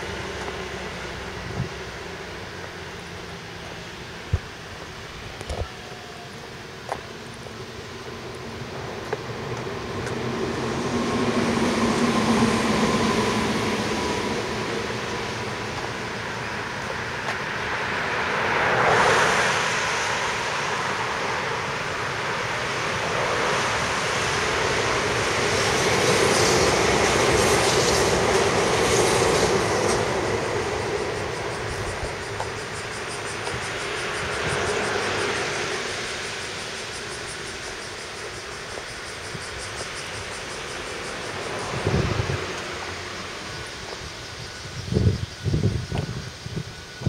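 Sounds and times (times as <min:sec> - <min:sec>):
electric train wheels rumbling: 0:00.0 - 0:47.0.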